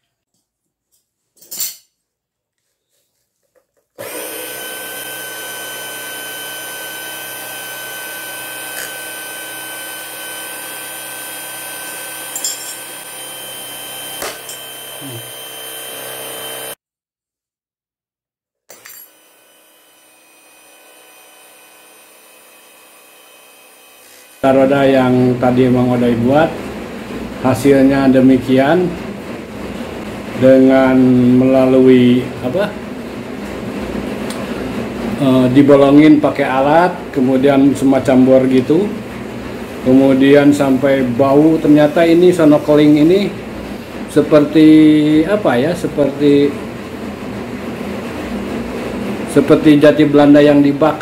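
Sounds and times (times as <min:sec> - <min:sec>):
wood lathe motor running: 0:04.0 - 0:16.8, 0:19.1 - 0:51.0.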